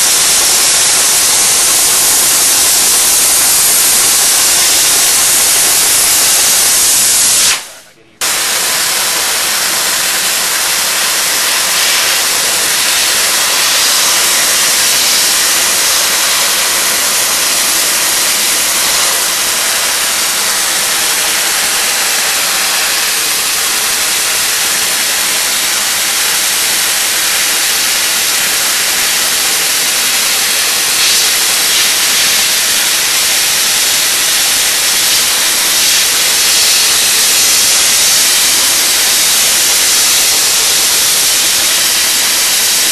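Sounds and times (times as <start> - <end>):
dry ice blaster hissing: 0.0 - 42.9.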